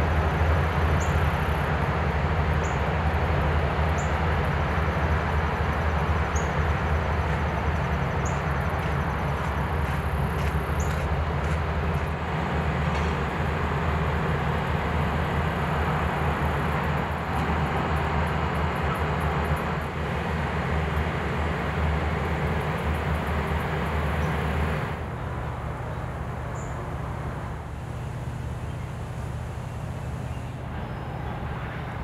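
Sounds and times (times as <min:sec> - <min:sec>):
low mechanical rumble: 0:00.0 - 0:32.0.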